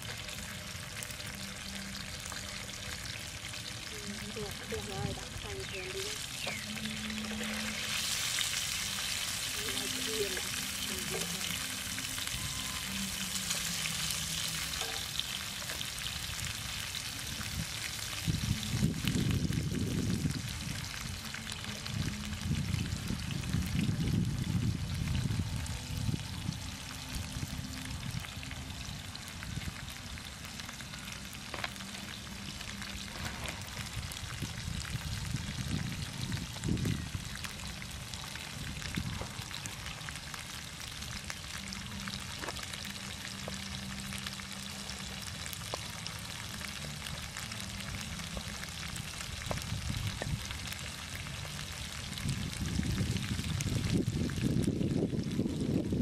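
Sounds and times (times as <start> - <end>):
tofu sizzling in oil: 0.0 - 21.6, 22.4 - 56.0
low rumbles: 0.9 - 56.0.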